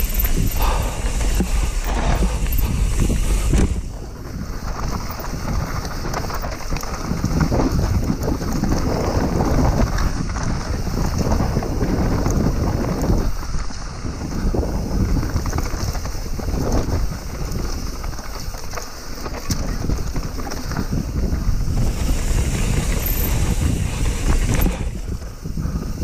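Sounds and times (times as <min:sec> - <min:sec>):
bike frame and tyres rattling: 0:00.0 - 0:26.0
wind rumbling on microphone: 0:00.0 - 0:26.0.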